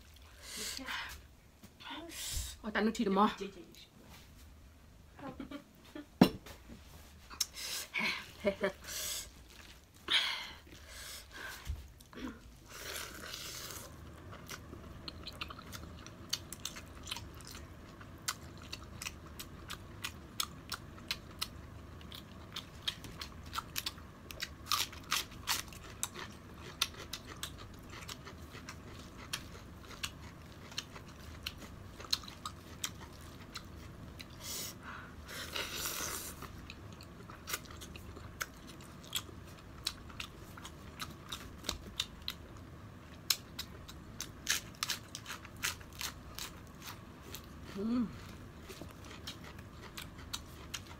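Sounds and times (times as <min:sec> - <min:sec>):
person chewing noodles: 0:09.2 - 0:10.0, 0:10.6 - 0:50.9.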